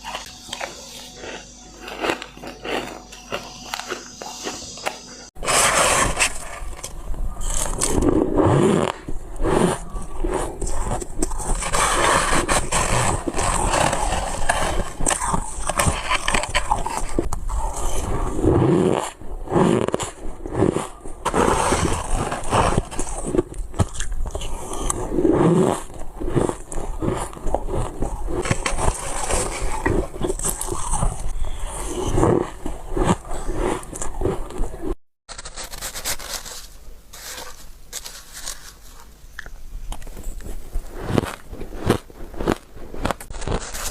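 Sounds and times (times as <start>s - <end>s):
ice being crunched and chewed: 0.0s - 43.9s.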